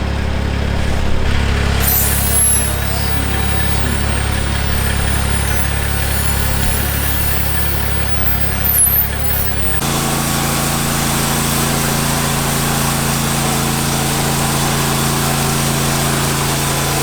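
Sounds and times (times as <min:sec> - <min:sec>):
engine running low hum: 0:00.0 - 0:17.0.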